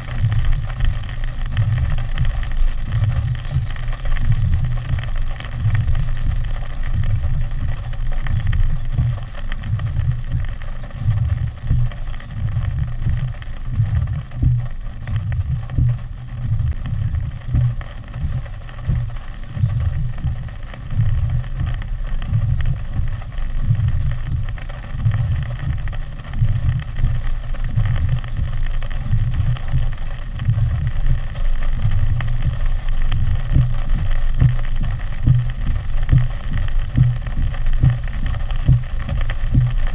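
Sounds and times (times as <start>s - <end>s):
steady hiss: 0.0s - 39.9s
storm wind buffeting microphone: 0.0s - 39.9s.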